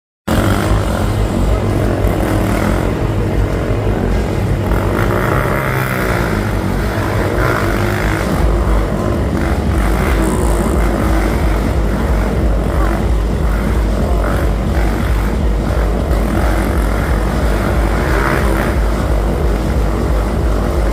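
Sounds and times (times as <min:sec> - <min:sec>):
crowd chatter: 0:00.3 - 0:20.9
engine drone with deep rumble: 0:00.3 - 0:20.9.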